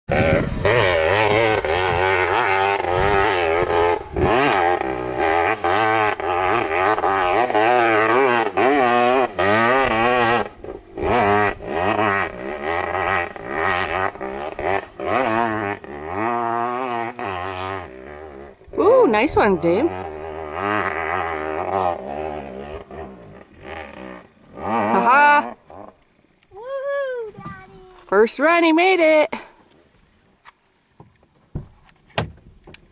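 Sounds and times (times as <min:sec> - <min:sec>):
dirt bike engine revving: 0:00.1 - 0:29.7.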